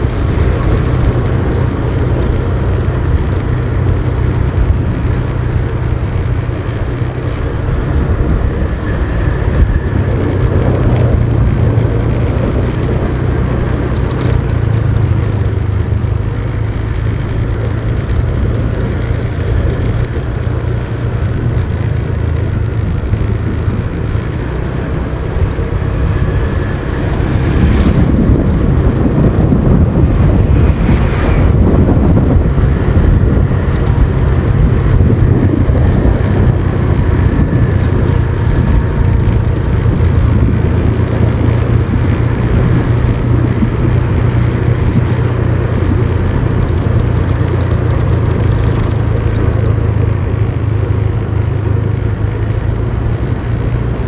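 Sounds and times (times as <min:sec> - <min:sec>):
motorcycle engine running: 0:00.0 - 0:54.0
wind on microphone: 0:00.0 - 0:54.0.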